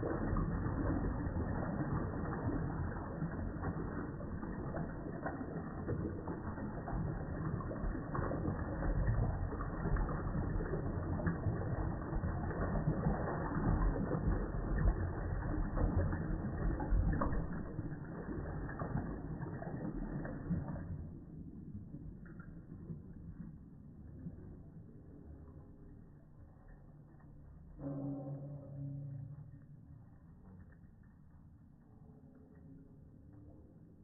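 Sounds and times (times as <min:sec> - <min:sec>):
slowed toilet flush: 0:00.0 - 0:34.0.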